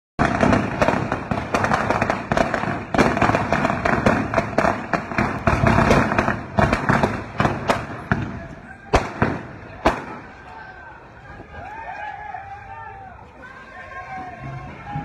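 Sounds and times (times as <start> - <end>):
firecrackers banging: 0.2 - 15.0.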